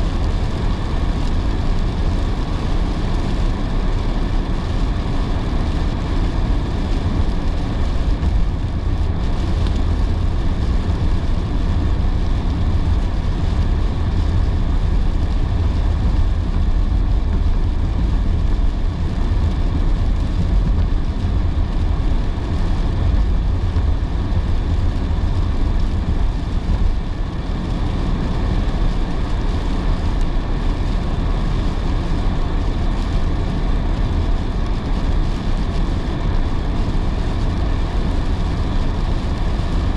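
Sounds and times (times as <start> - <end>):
tyres rumbling on road: 0.0 - 39.9.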